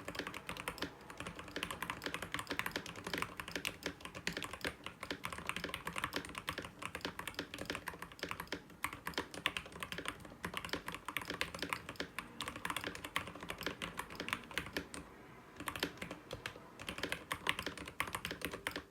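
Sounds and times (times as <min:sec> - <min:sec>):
keyboard typing: 0:00.0 - 0:18.9.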